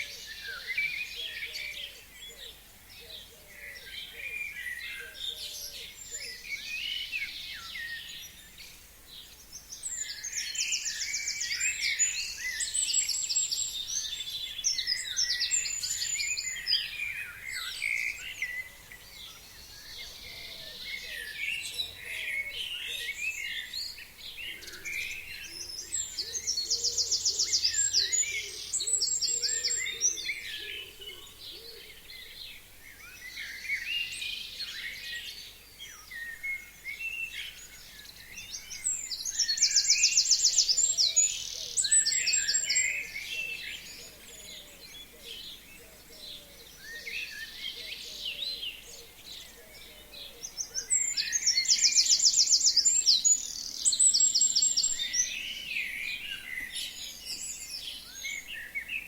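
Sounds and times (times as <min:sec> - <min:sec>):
forest birds singing: 0:00.0 - 0:59.0.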